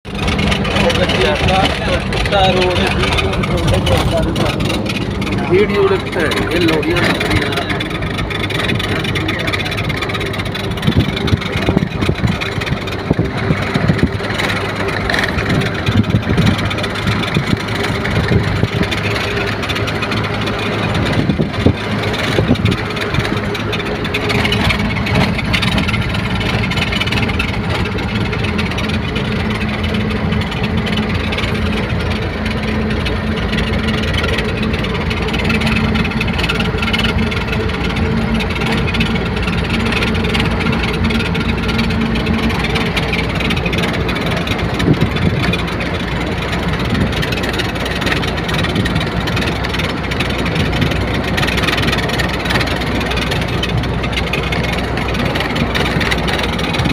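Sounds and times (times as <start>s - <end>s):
truck diesel engine running: 0.0s - 56.9s.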